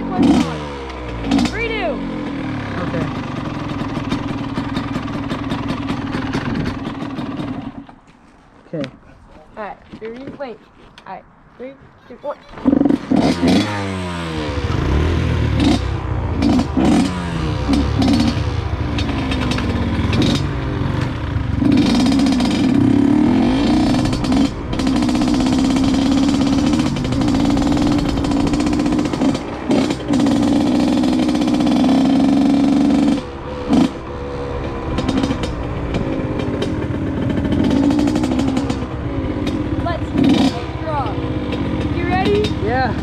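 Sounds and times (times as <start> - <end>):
dirt bike engine revving: 0.0 - 7.8, 12.0 - 43.0.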